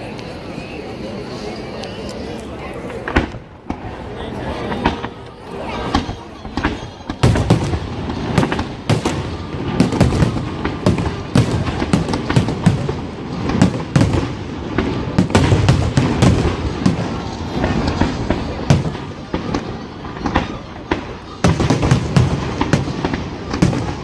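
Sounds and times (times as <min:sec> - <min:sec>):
fireworks bursts and crackles: 0:00.0 - 0:24.0
fireworks booms: 0:02.9 - 0:24.0.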